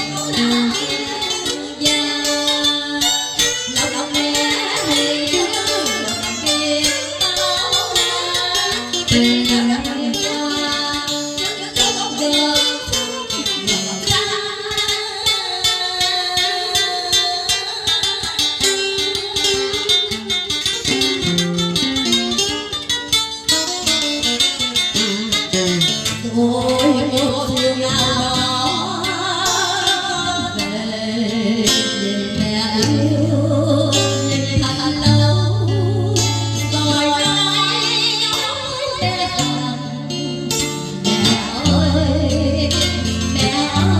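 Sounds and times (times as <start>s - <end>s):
plucked strings instrumental music: 0.0s - 43.9s.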